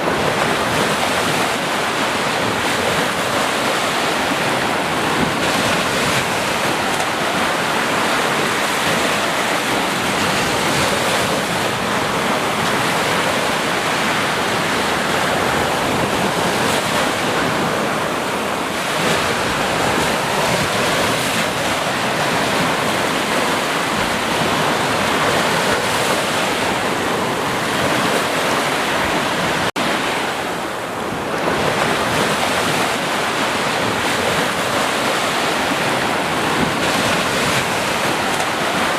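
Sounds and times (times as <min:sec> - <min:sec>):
waves breaking: 0:00.0 - 0:38.9
wind noise on microphone: 0:00.0 - 0:38.9.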